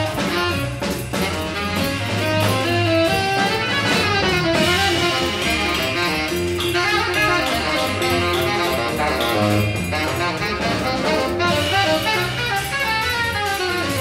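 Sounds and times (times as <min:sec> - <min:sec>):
double bass: 0:00.0 - 0:14.0
drum kit: 0:00.0 - 0:14.0
electric guitar: 0:00.0 - 0:14.0.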